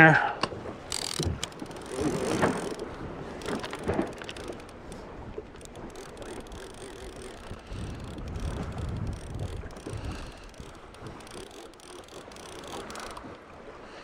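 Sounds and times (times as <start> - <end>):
water against boat: 0.0 - 14.0
wind rumbling on microphone: 0.5 - 13.9
fishing reel gears whirring: 0.8 - 13.5.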